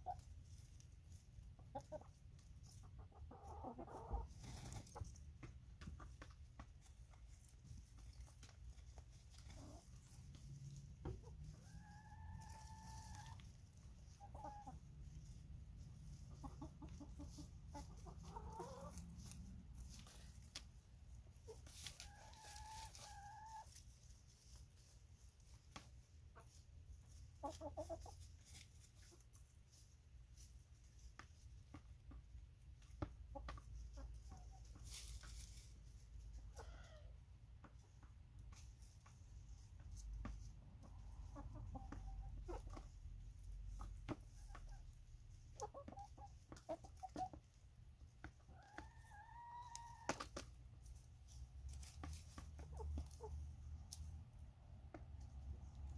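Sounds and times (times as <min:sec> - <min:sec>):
hens clucking and calling: 0:00.0 - 0:54.0.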